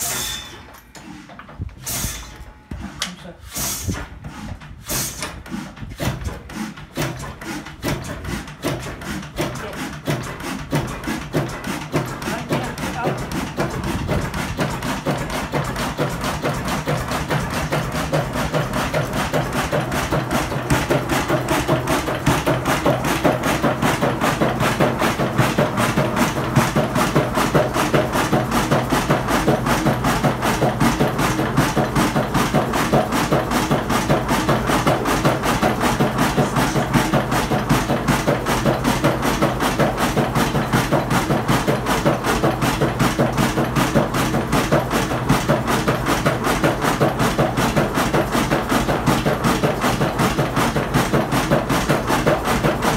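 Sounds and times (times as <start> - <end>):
stationary engine knocking: 3.8 - 52.9.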